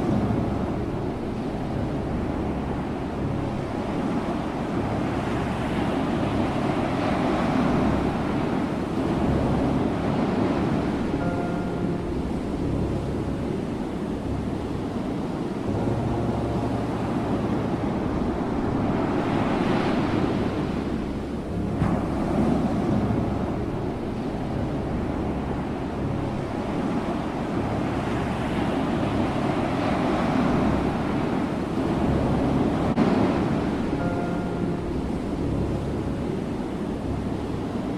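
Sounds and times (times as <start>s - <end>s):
ocean waves breaking: 0.0s - 37.9s.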